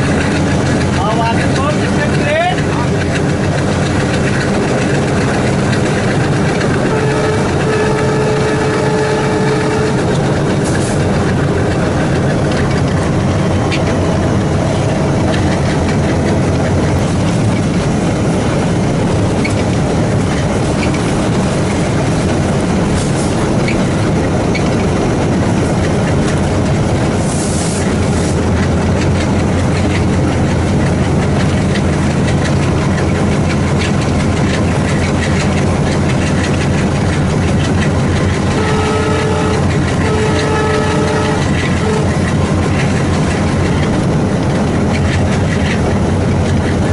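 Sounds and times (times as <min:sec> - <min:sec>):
diesel locomotive engine chugging: 0:00.0 - 0:46.9
train wheels clattering on rails: 0:00.0 - 0:46.9.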